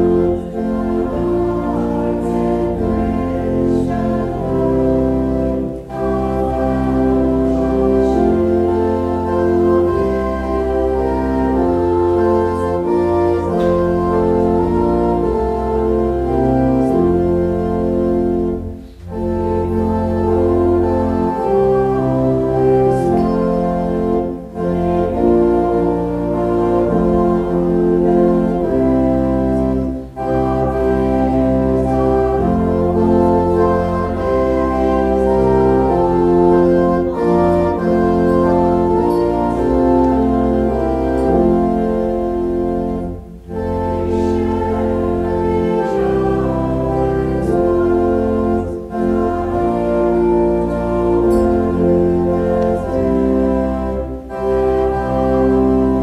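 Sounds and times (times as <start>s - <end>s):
church organ playing slow chords: 0.0s - 56.0s.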